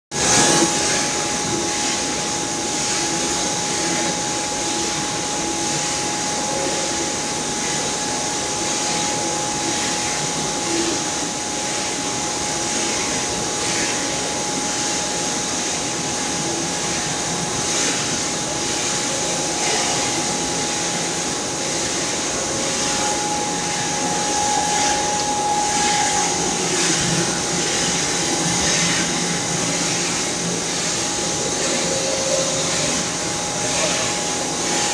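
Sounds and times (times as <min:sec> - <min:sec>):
constant high whine: 0:00.2 - 0:34.9.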